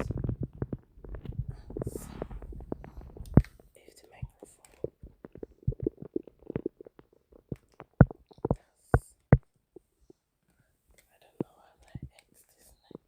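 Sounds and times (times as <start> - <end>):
stomach gurgling: 0.0 - 10.2, 11.2 - 13.0.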